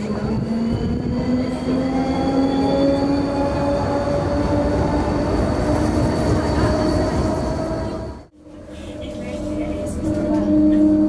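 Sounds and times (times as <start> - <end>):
tram motors whining: 0.0 - 11.0
wheels rumbling on rails: 0.0 - 11.0.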